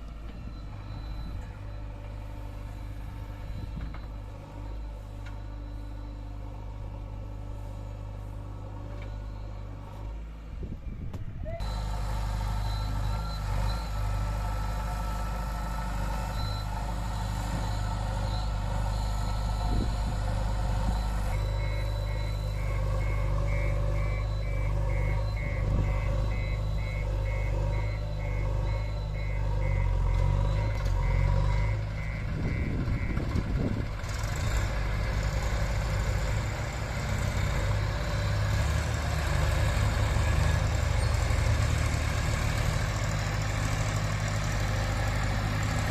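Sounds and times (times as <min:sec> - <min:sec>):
diesel engine running: 0:00.0 - 0:45.9
reversing alarm beeping: 0:00.3 - 0:06.6, 0:07.6 - 0:10.0, 0:11.6 - 0:45.9.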